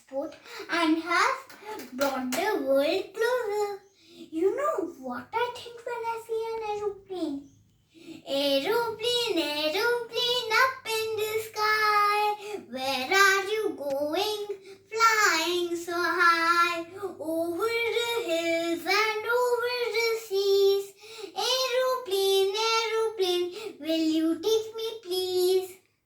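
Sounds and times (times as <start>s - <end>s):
child singing: 0.0s - 7.5s, 8.2s - 25.8s.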